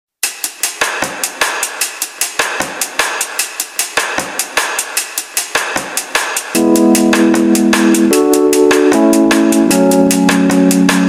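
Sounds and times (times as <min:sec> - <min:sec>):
fast drum-kit beat: 0:00.2 - 0:11.0.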